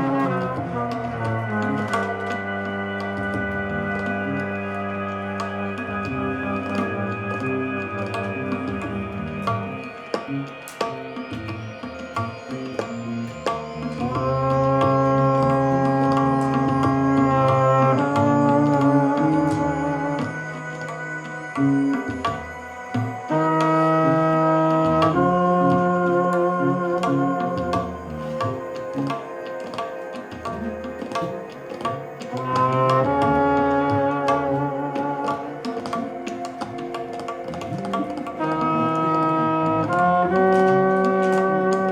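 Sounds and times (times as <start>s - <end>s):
hand drum strokes: 0.0s - 41.9s
jazz ensemble playing: 0.0s - 41.9s
long held note: 0.0s - 41.9s.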